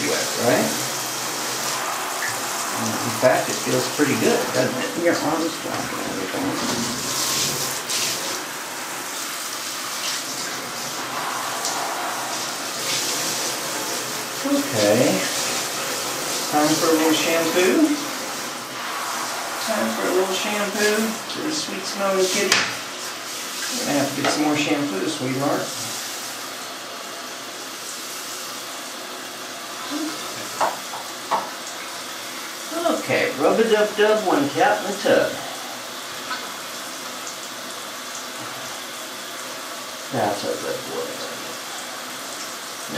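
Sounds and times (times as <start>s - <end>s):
bathtub water running: 0.0s - 42.9s.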